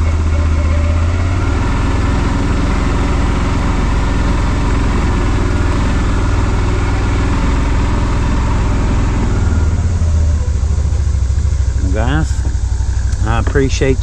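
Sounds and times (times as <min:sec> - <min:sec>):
off-road vehicle engine droning: 0:00.0 - 0:14.0.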